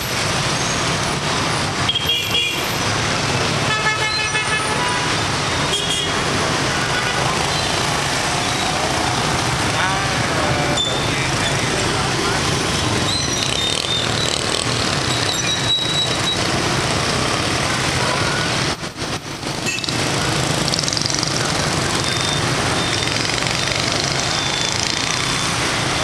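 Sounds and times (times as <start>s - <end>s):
motorbike and scooter traffic: 0.0s - 26.0s
cars passing: 4.4s - 26.0s.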